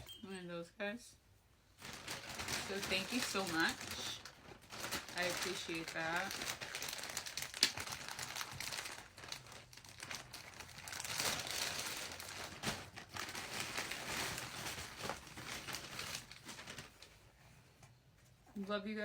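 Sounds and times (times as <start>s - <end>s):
packaging crinkling and rustling: 1.8s - 17.4s.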